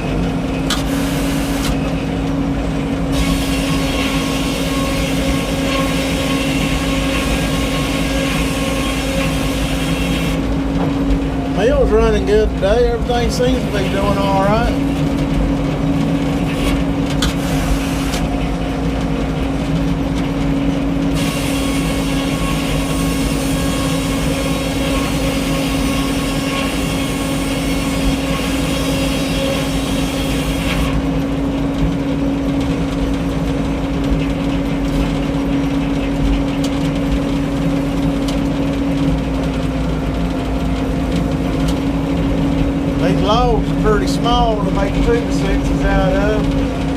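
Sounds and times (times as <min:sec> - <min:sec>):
sawmill engine hum: 0:00.0 - 0:46.9.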